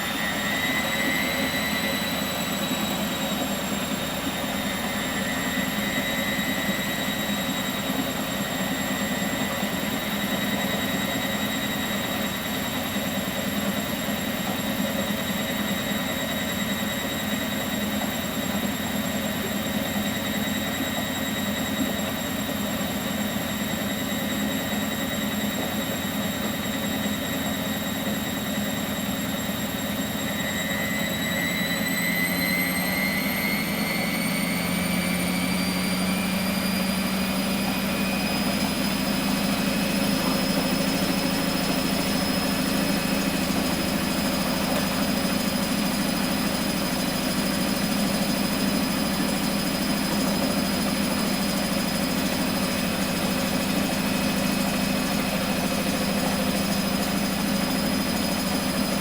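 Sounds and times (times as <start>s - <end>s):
washing machine motor whine: 0.0s - 59.0s.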